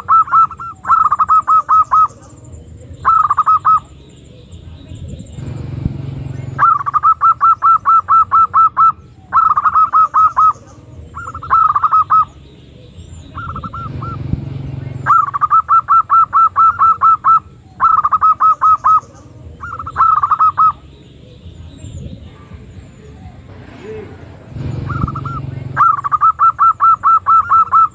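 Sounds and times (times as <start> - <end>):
dove call staccato notes: 0.0 - 4.1, 5.2 - 22.1, 23.9 - 27.9.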